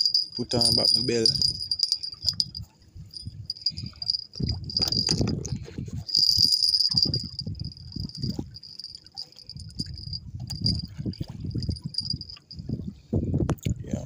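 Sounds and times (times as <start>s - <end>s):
crickets chirping: 0.0s - 5.4s, 6.0s - 12.6s.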